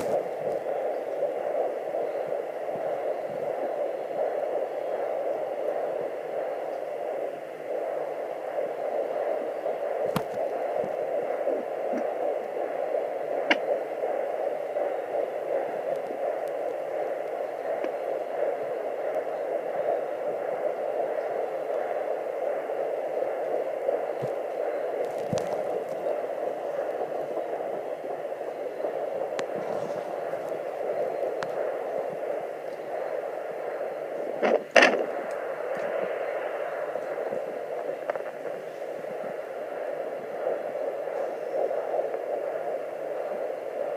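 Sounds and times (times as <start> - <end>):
whooshing static: 0.0 - 43.9.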